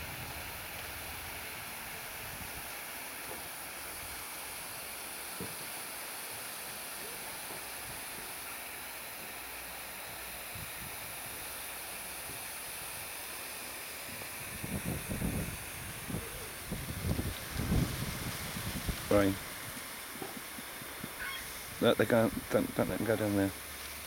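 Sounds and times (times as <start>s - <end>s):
background hiss: 0.0s - 24.0s.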